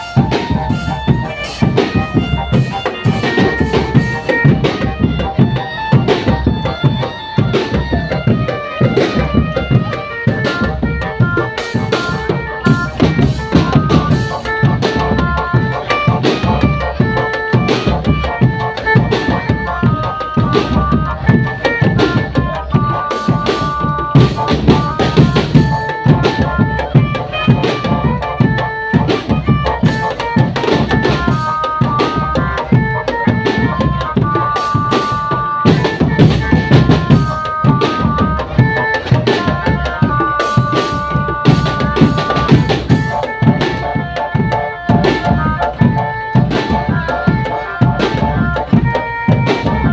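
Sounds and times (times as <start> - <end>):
bass drums and snare drums: 0.0 - 49.9
high melody of held notes: 0.0 - 49.9
marching drum band playing: 0.0 - 49.9.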